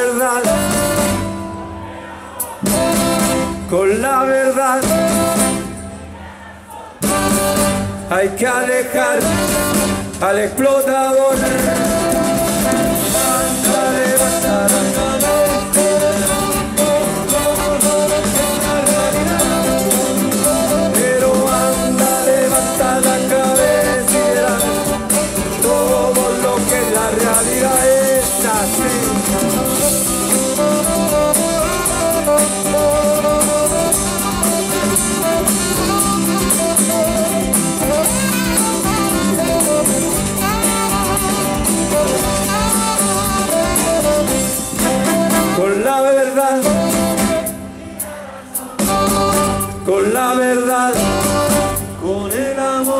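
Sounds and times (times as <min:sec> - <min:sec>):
live folk-rock band playing: 0:00.0 - 0:06.2, 0:07.0 - 0:52.9.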